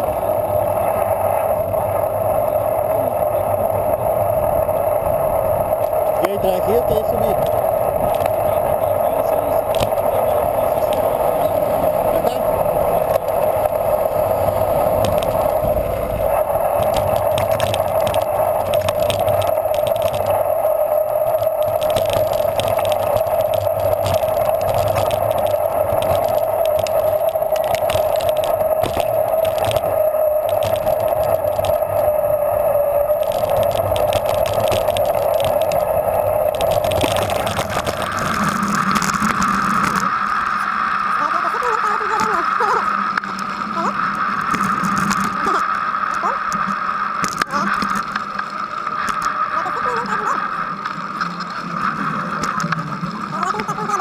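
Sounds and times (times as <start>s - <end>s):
bicycle rattling: 0.0s - 54.0s
bicycle tyres rolling: 0.0s - 54.0s.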